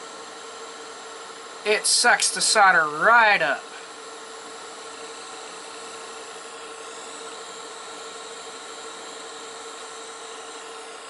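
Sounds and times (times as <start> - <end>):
gas soldering iron hissing: 0.0 - 11.0.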